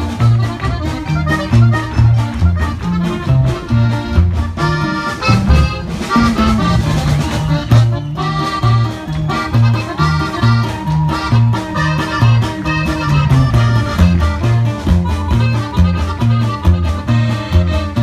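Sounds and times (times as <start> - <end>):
accordion folk polka music: 0.0 - 18.0
bass line: 0.0 - 18.0.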